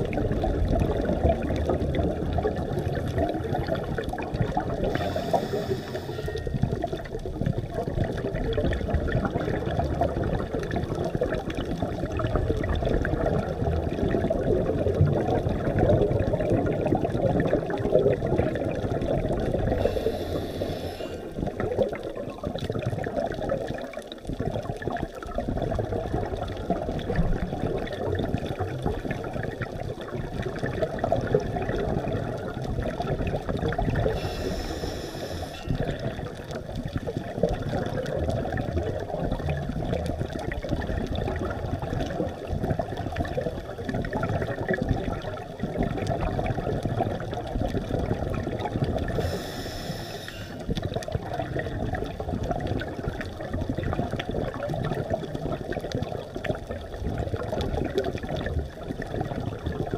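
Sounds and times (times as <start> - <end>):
muffled underwater rumble: 0.0 - 59.9
regulator bubbles rushing: 0.0 - 59.9.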